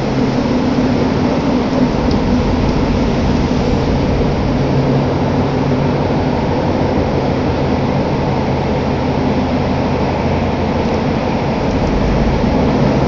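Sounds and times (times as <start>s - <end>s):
low hum: 0.0s - 8.1s, 10.0s - 13.0s
subway train rumble: 0.0s - 13.0s.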